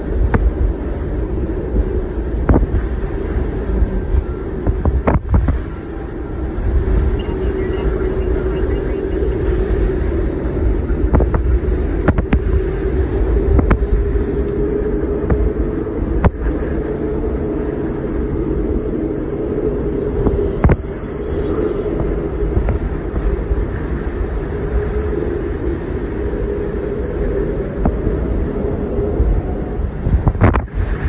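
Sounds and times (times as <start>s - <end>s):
jet engines rumbling: 0.0s - 31.0s
wind buffeting microphone: 0.0s - 31.0s.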